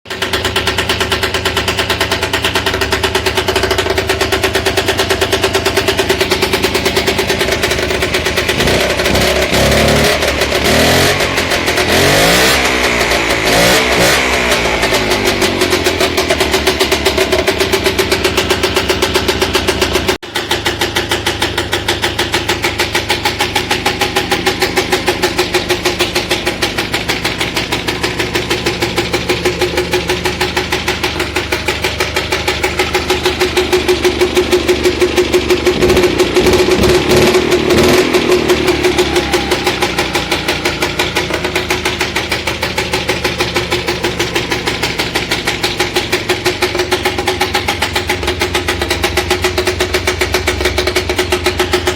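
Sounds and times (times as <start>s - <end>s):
two-stroke engine pulsing: 0.0s - 51.9s.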